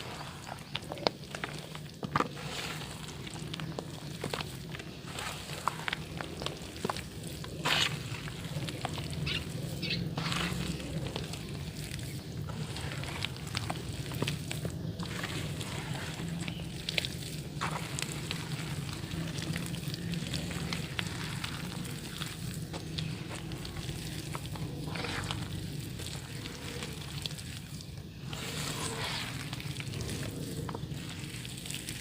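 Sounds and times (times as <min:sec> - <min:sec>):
dirt crumbling in water: 0:00.0 - 0:32.0
fizzing crackle: 0:00.0 - 0:32.0.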